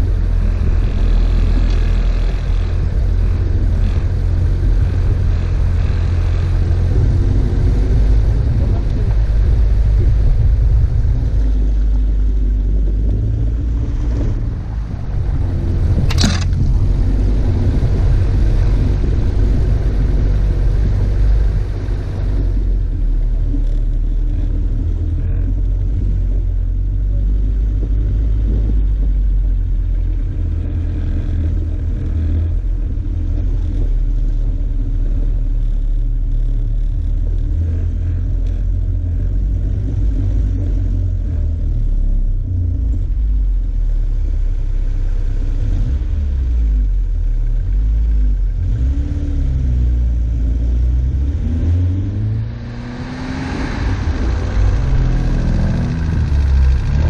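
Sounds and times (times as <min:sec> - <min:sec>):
engine running under load: 0:00.0 - 0:57.0.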